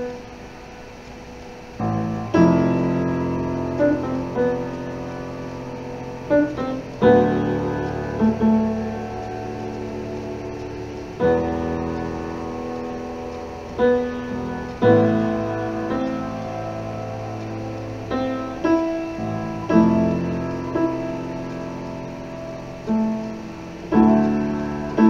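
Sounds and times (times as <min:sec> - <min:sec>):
solo acoustic piano: 0:00.0 - 0:25.0.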